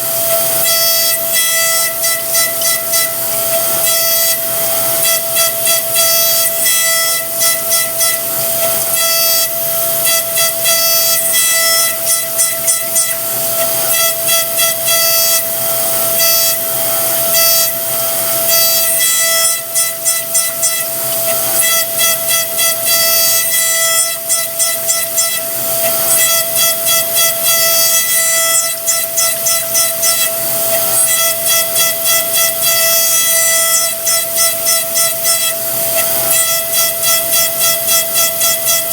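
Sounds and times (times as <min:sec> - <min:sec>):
milling machine spindle whine: 0:00.0 - 0:38.9.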